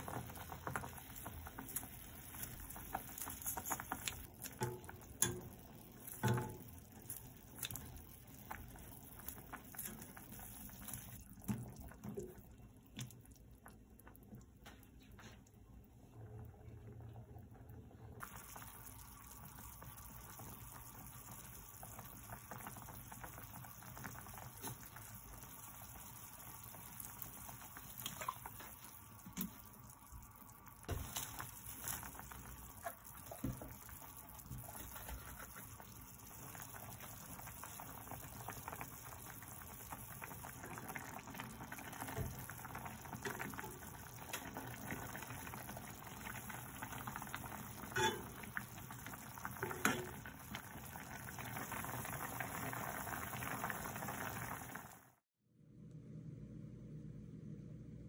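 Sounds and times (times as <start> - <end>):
stew bubbling at a boil: 0.0 - 55.2.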